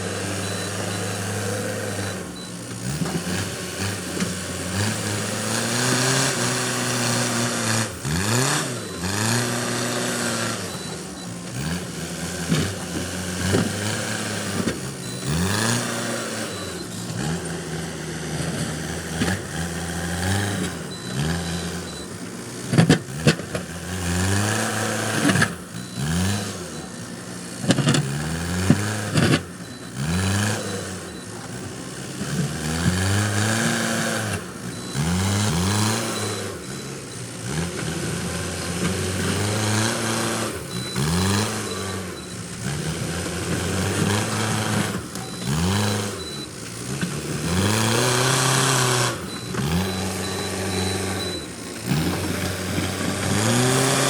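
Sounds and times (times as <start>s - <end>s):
backhoe diesel engine working: 0.0s - 54.0s.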